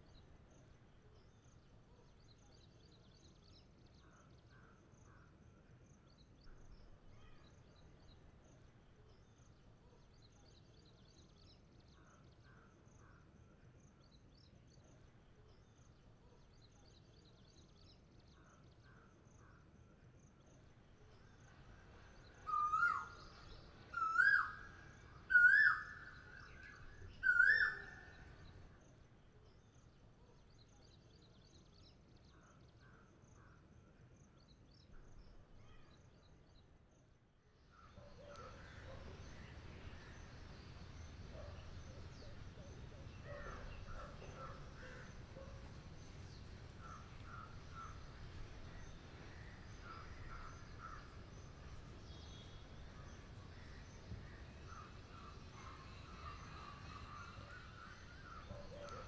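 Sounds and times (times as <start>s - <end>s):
low background hiss: 0.0s - 59.0s.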